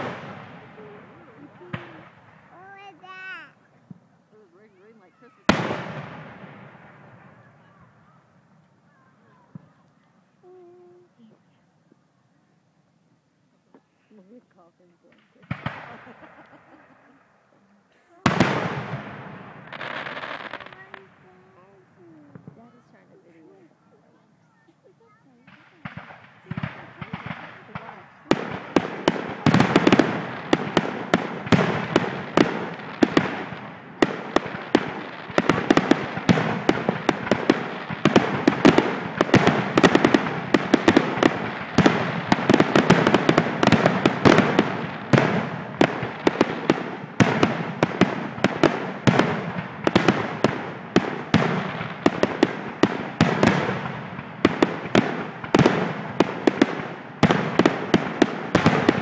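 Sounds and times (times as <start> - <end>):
fireworks bangs: 0.0 - 11.5, 13.7 - 59.0
fireworks crackling: 0.0 - 59.0.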